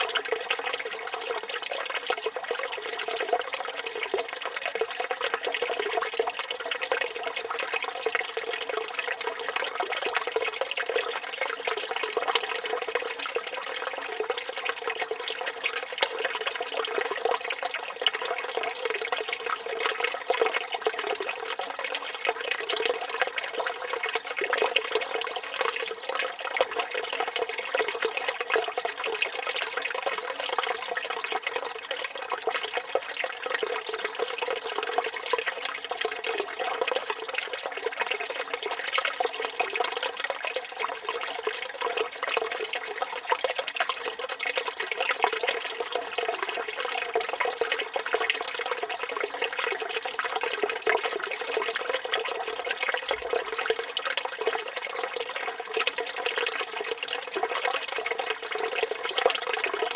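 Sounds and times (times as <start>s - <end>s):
water pouring into stone basin: 0.0s - 59.9s.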